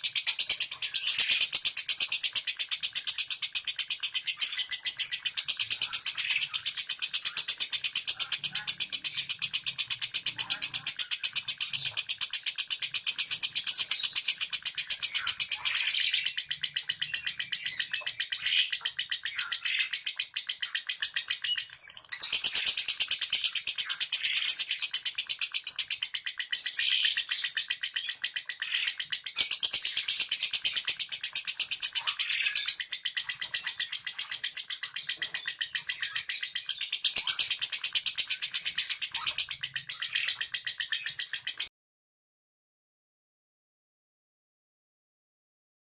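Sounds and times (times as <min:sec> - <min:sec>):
lovebird ticking chatter: 0:00.0 - 0:41.7.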